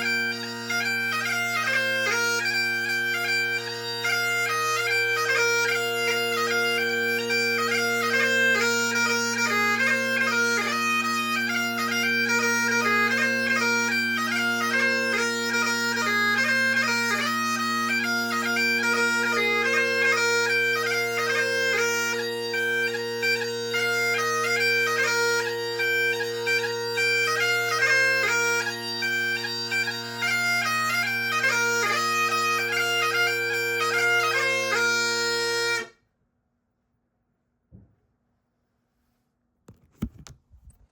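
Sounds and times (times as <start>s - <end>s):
bagpipe chanter melody: 0.0s - 35.9s
bagpipe drones: 0.0s - 35.9s.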